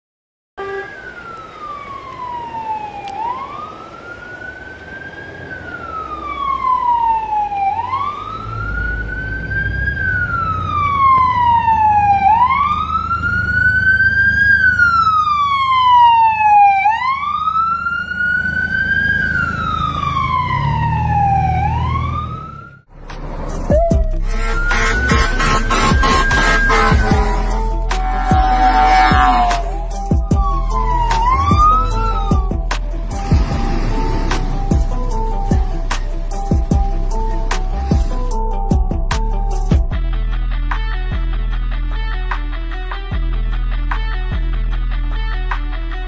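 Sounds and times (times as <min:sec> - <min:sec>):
ambulance siren wailing: 0:00.6 - 0:39.9
engine and road rumble: 0:00.6 - 0:46.0.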